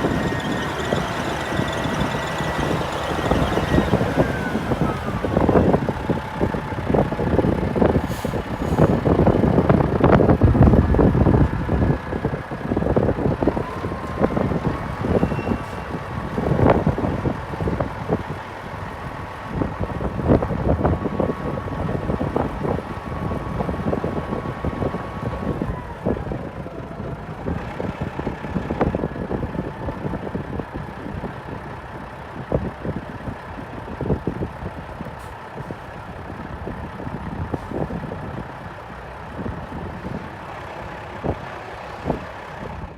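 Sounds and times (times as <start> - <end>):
diesel truck engine whine: 0.0 - 42.9.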